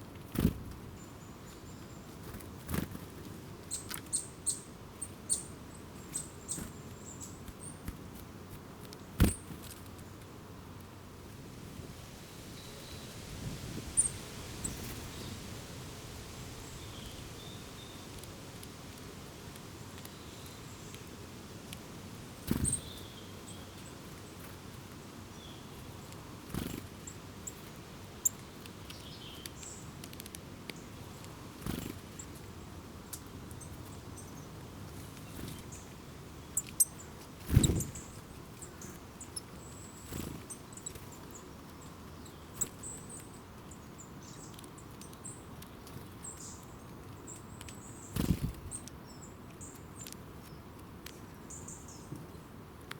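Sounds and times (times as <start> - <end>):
small birds chirping: 0.2 - 10.9, 12.2 - 15.6, 16.5 - 52.9.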